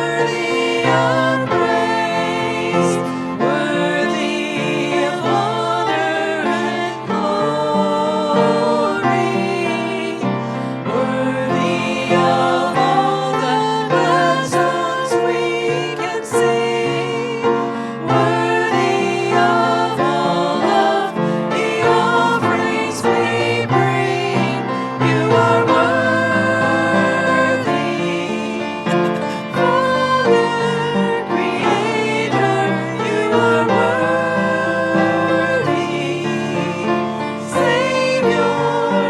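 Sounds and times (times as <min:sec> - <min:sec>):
congregation singing a hymn: 0:00.0 - 0:39.0.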